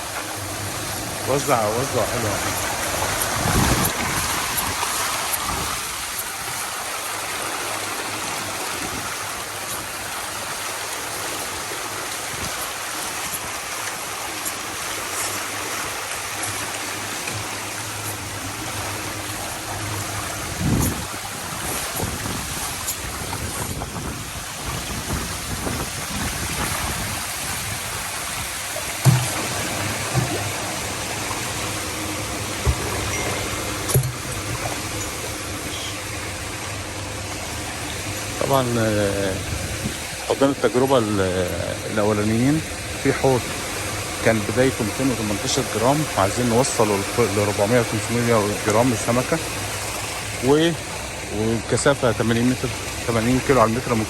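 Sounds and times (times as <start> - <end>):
water rushing and splashing: 0.0 - 54.0.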